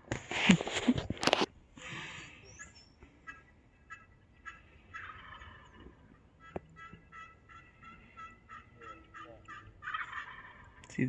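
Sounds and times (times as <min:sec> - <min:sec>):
distant turkey gobble: 0:00.0 - 0:11.0
turkey yelps: 0:01.8 - 0:10.9.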